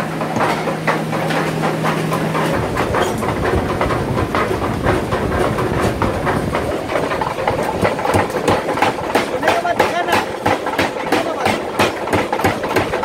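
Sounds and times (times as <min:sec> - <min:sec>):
steady mechanical din: 0:00.0 - 0:13.0.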